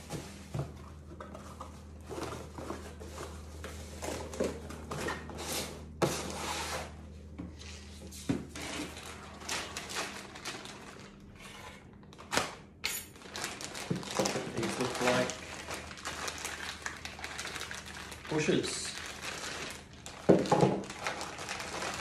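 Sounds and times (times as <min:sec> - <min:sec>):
cardboard and plastic rustling: 0:00.0 - 0:22.0.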